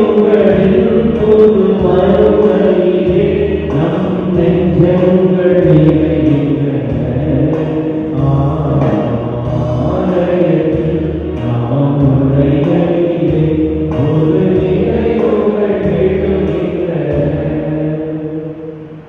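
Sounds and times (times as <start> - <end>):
voices singing a chant-like hymn: 0.0 - 19.0.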